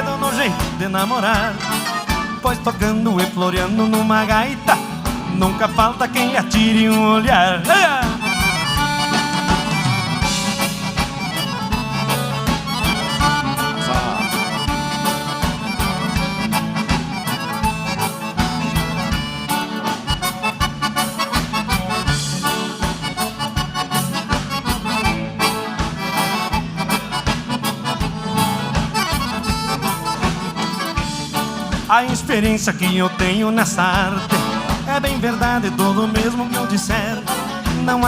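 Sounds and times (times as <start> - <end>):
accordion playing: 0.0 - 38.0
live dance band: 0.0 - 38.0.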